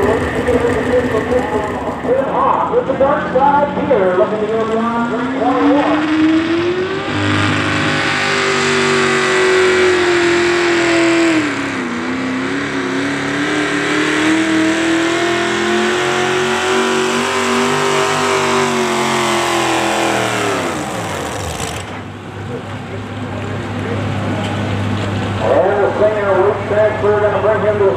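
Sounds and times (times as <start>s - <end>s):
tractor engine at full throttle: 0.0s - 27.9s.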